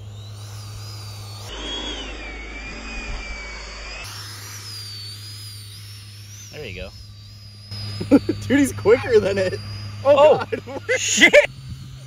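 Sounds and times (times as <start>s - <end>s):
background hum: 0.0s - 12.0s
electric model plane motor whining: 0.0s - 12.0s.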